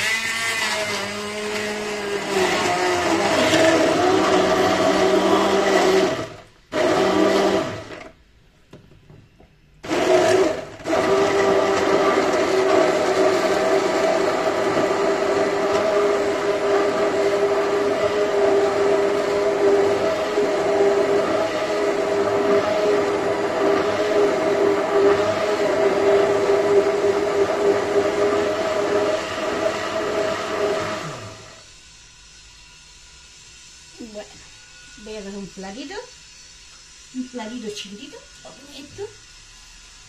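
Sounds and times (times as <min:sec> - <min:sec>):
stick blender running: 0:00.0 - 0:08.2, 0:09.8 - 0:31.8, 0:33.8 - 0:40.0.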